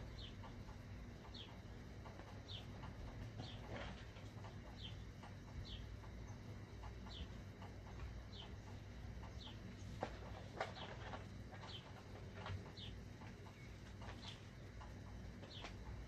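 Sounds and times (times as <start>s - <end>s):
bird chirping: 0.0s - 0.6s, 1.2s - 14.7s, 15.4s - 16.0s.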